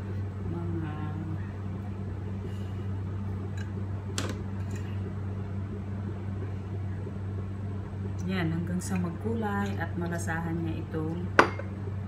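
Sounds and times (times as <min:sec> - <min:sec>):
low electrical motor hum: 0:00.0 - 0:12.0.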